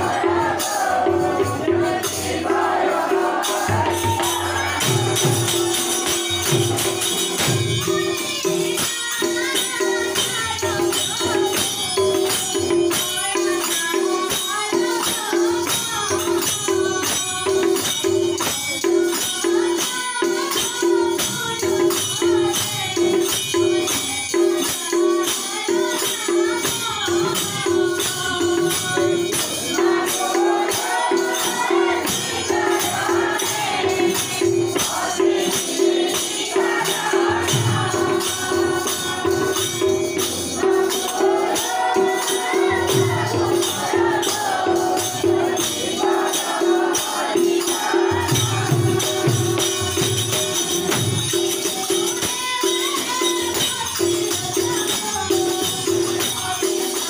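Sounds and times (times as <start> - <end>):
group singing: 0.0 - 57.0
jingling percussion: 0.0 - 57.0.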